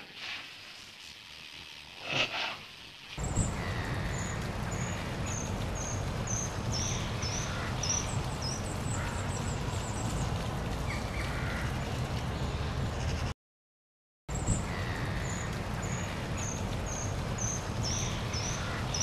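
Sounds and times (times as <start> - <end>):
old film crackle and rumble: 2.7 - 13.3, 14.3 - 19.0.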